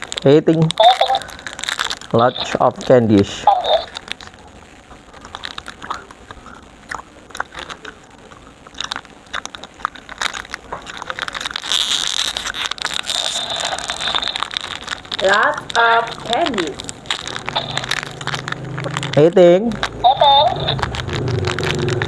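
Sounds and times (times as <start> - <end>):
candy crunching and chewing: 0.0 - 22.0.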